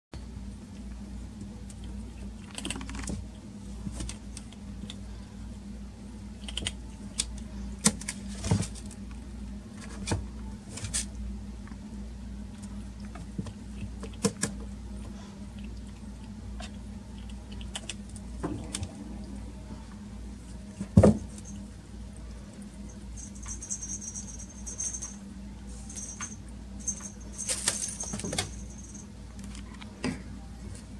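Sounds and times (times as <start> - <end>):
steady low hum: 0.2 - 30.9.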